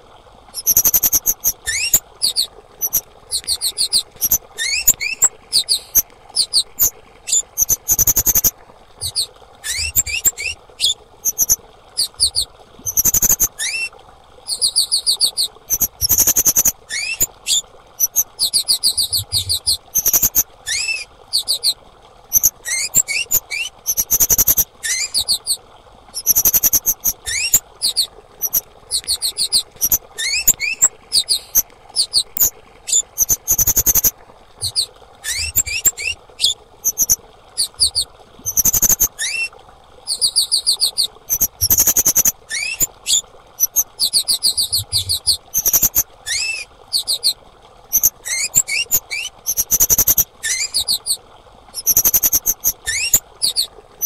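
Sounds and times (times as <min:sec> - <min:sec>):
bird chirping and trilling: 0:00.6 - 0:13.9, 0:14.5 - 0:25.6, 0:26.2 - 0:39.5, 0:40.1 - 0:51.2, 0:51.8 - 0:53.7.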